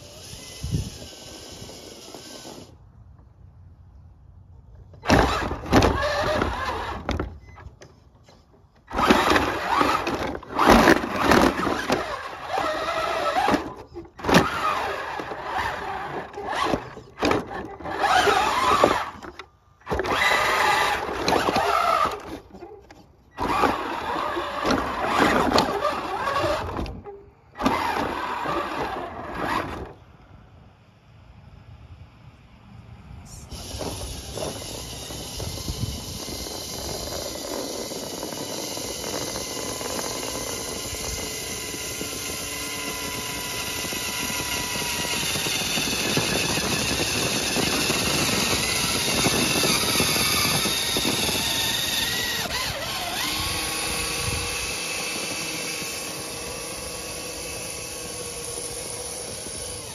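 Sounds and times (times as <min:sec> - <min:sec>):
rc truck motors whining: 0:00.0 - 0:03.4, 0:04.3 - 0:30.2, 0:33.3 - 0:59.9.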